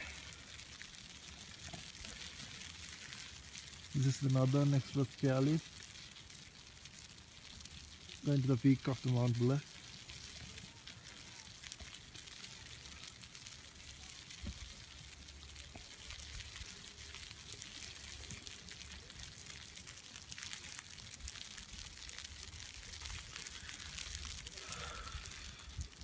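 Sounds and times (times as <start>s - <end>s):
small crackles: 0.0s - 26.0s.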